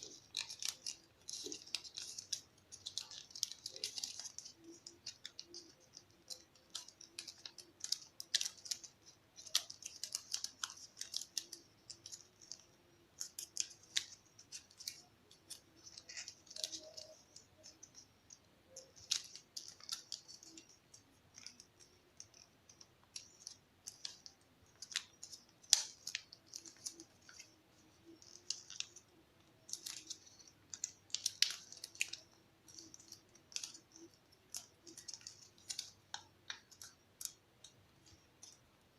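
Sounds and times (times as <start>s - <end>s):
paper folding and creasing: 0.0s - 38.9s.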